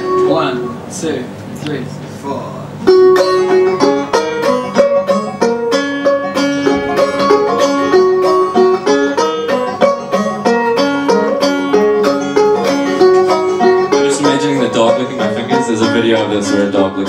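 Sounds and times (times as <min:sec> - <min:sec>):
banjo picking: 0:00.0 - 0:00.9, 0:02.6 - 0:17.0
strummed acoustic guitar: 0:00.0 - 0:00.9, 0:02.7 - 0:17.0.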